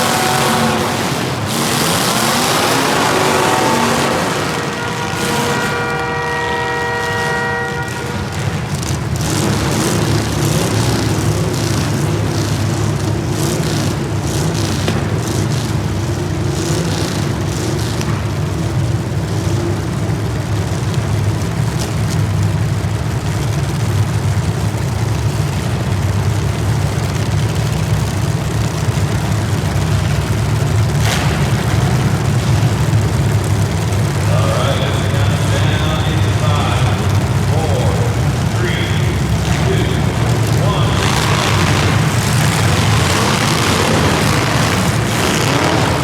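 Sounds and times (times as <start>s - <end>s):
heavy engine rumbling: 0.0s - 46.0s.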